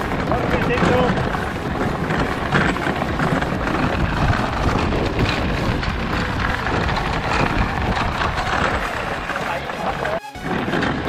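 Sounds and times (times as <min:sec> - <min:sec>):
go-kart tyres rolling: 0:00.0 - 0:11.0
wind buffeting microphone: 0:00.0 - 0:11.0.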